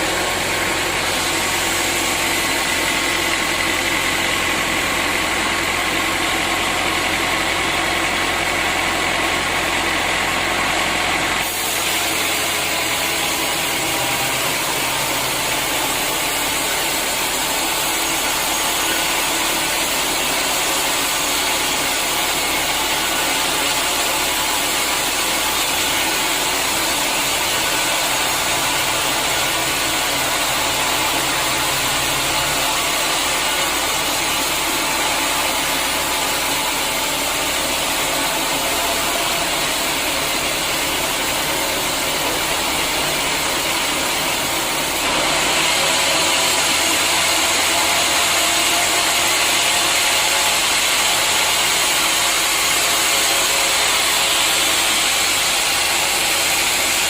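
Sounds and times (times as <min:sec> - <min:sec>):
sawmill saw drone: 0:00.0 - 0:57.0.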